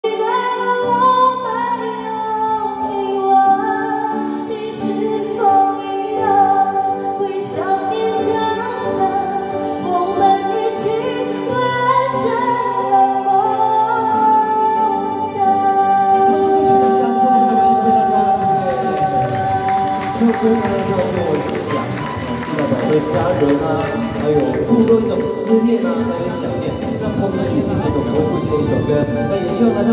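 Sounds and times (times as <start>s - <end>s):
instrumental accompaniment: 0.1s - 29.9s.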